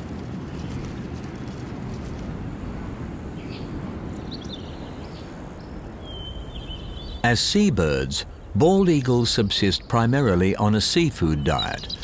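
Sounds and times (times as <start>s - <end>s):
low rumble of outdoor ambience: 0.0s - 12.0s.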